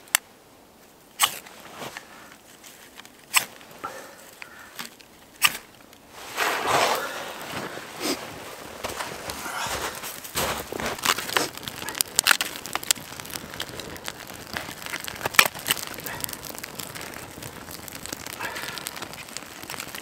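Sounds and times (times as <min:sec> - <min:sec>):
dry kindling crackling and snapping: 0:00.0 - 0:20.0.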